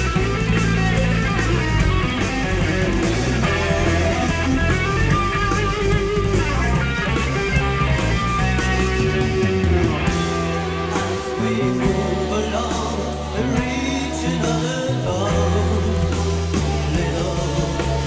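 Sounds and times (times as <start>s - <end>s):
hard rock song with singing: 0.0s - 18.0s.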